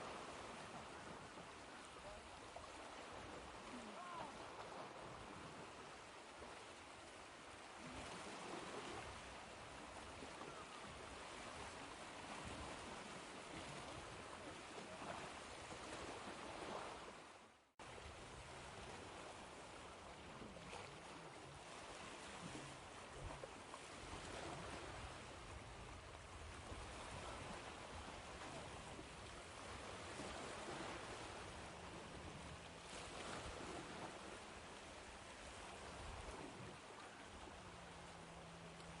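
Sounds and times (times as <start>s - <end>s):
ocean waves and surf: 0.0s - 39.0s.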